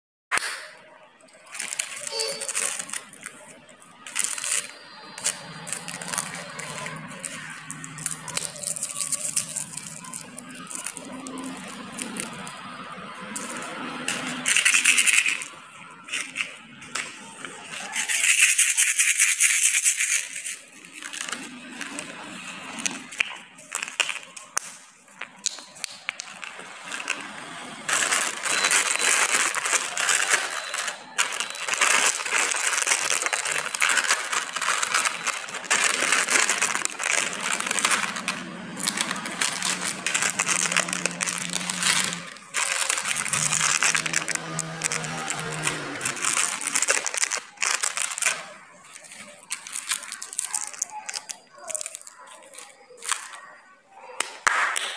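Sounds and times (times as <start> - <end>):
plastic wrappers crinkling: 0.4 - 54.9.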